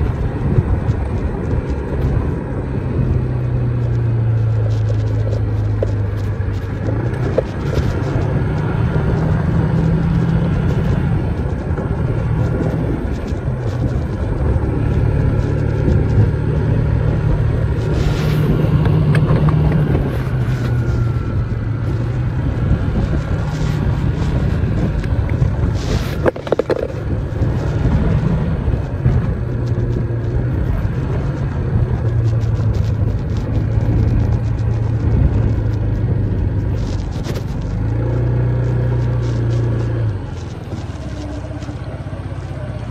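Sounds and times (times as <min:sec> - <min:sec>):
scooter engine running: 0:00.0 - 0:42.9.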